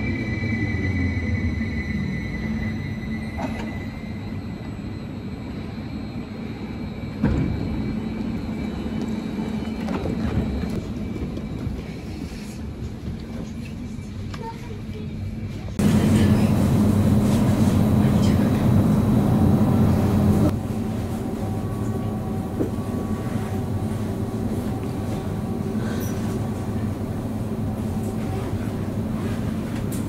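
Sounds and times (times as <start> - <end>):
hum inside train carriage: 0.0 - 30.0.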